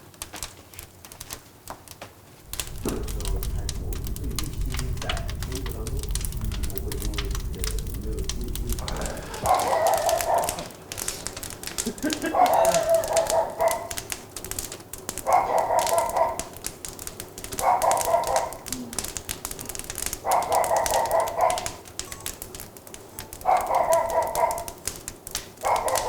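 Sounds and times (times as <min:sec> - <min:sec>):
logs crackling and popping: 0:00.0 - 0:26.0.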